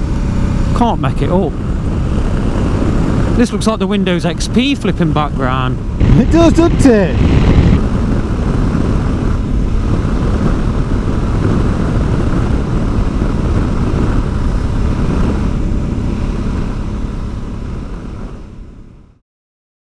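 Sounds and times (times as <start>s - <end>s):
wind rush over microphone: 0.0s - 19.0s
motorcycle engine: 0.0s - 19.2s.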